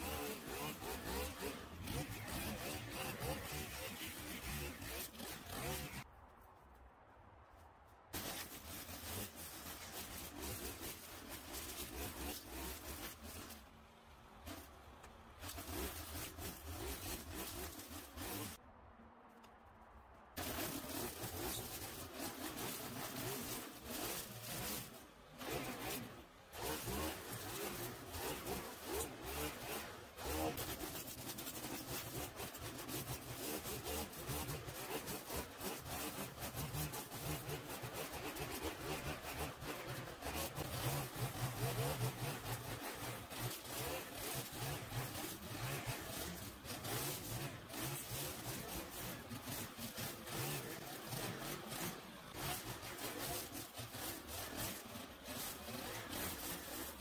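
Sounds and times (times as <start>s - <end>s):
scratchy rasping cutting of grass: 0.0s - 6.1s, 8.2s - 13.8s, 14.4s - 18.6s, 20.4s - 57.0s
small petrol engine running: 0.0s - 6.1s, 8.2s - 18.6s, 20.4s - 57.0s.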